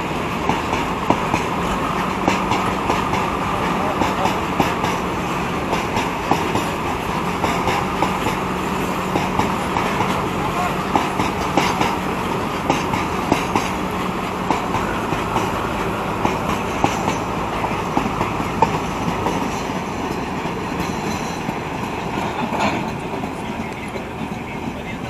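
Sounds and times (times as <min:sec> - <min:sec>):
freight train rolling past: 0:00.0 - 0:25.0
wheels clicking over rail joints: 0:00.4 - 0:25.0.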